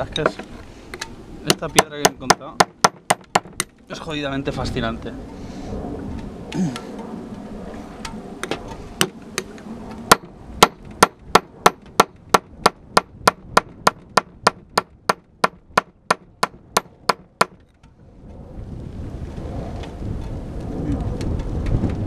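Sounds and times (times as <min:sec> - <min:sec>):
wind noise: 0:00.0 - 0:22.0.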